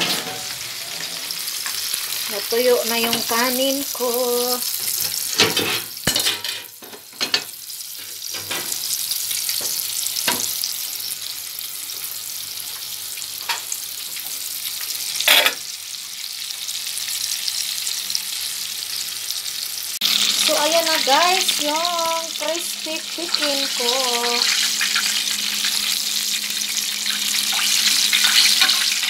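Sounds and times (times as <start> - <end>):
chicken frying in hot oil: 0.0 - 29.0.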